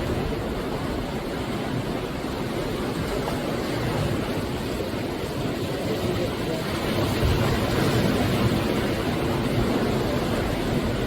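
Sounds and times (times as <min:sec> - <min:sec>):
sea waves breaking on shore: 0:00.0 - 0:11.0.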